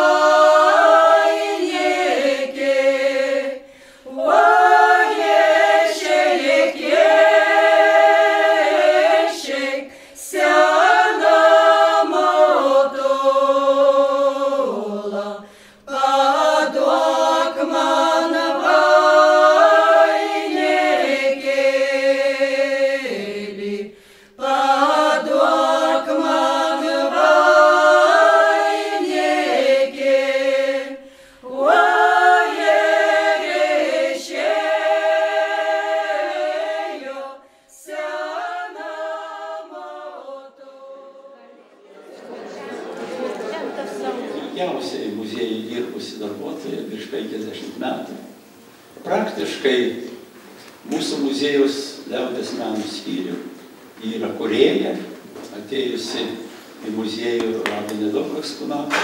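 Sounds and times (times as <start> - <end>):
choir singing a cappella: 0.0 - 48.5.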